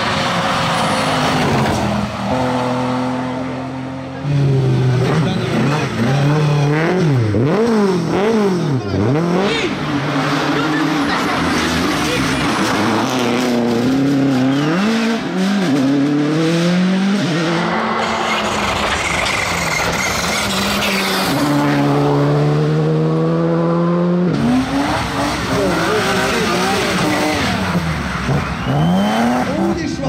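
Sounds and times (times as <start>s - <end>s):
rally car engines passing at speed: 0.0s - 30.0s.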